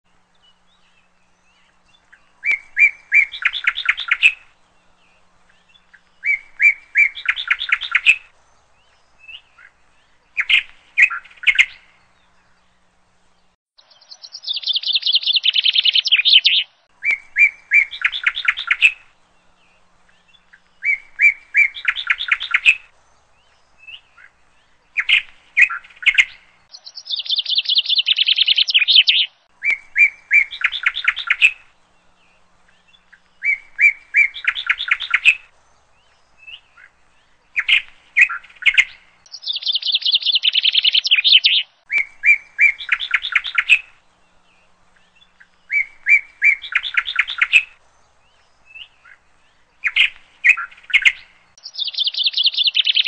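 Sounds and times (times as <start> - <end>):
songbird singing chirps and trills: 0.0 - 53.0.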